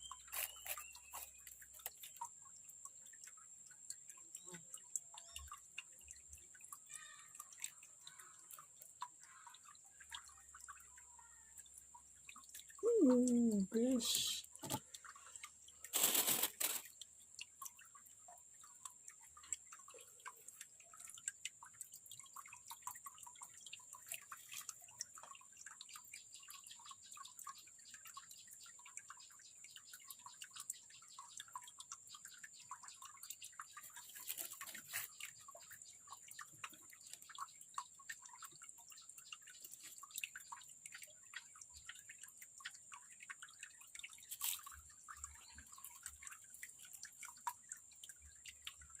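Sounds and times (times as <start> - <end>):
water trickling and dripping: 0.0 - 49.0.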